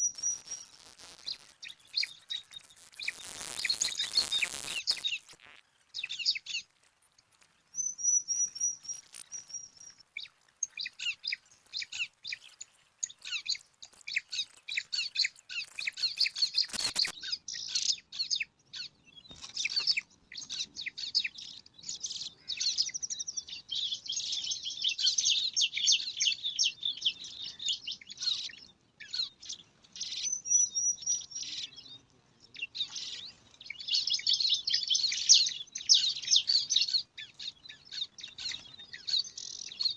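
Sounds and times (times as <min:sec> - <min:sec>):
nestlings chirping: 0:00.0 - 0:06.7, 0:07.8 - 0:28.7, 0:32.7 - 0:39.9.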